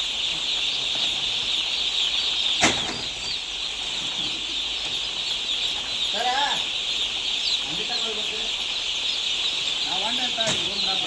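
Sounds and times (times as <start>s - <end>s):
chickens clucking: 0.0s - 11.0s
high-pitched chirping: 0.0s - 11.0s.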